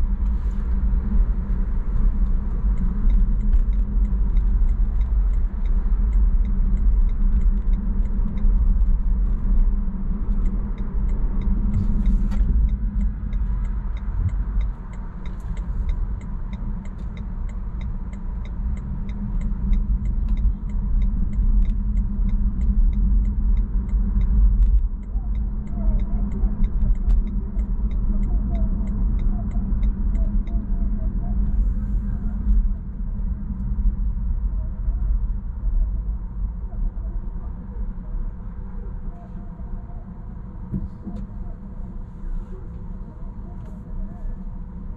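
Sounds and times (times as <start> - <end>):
car engine rumble: 0.0 - 44.9.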